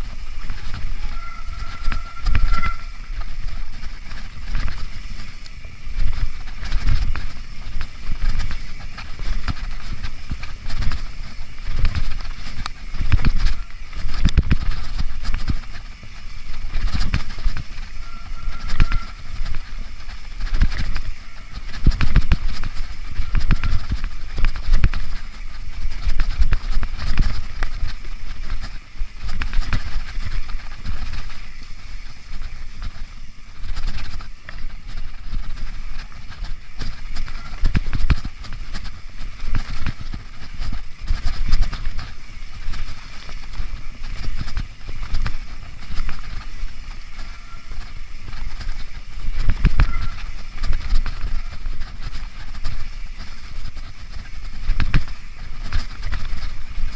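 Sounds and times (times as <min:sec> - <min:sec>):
bike knocking and rattling: 0:00.0 - 0:56.9
bike tyres rolling over roots: 0:00.0 - 0:56.9.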